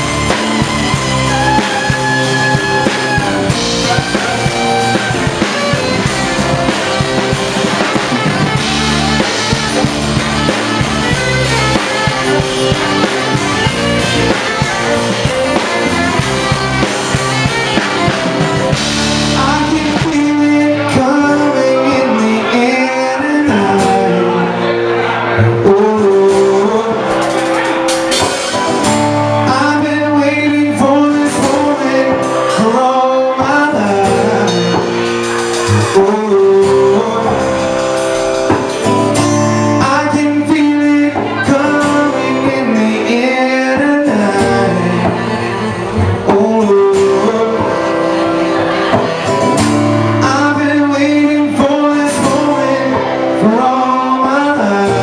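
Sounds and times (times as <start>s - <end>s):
man singing: 0.0s - 55.0s
rock band playing: 0.0s - 55.0s.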